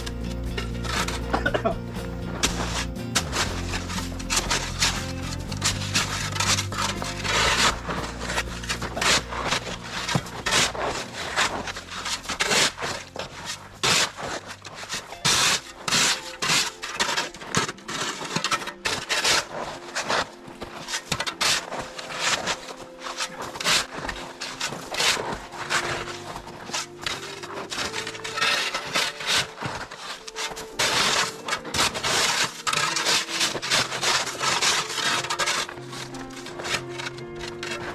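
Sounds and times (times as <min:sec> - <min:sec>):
background music: 0:00.0 - 0:37.9
rough scraping strokes: 0:00.0 - 0:37.9.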